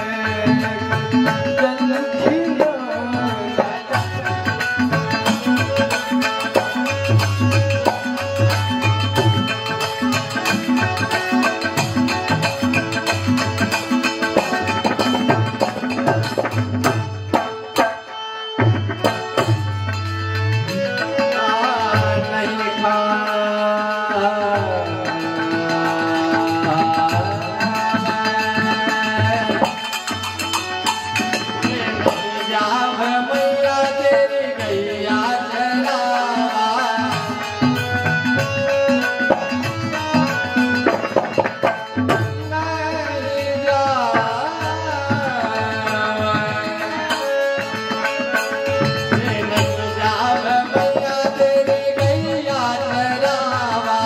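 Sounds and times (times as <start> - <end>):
tabla drumming: 0.0 - 54.0.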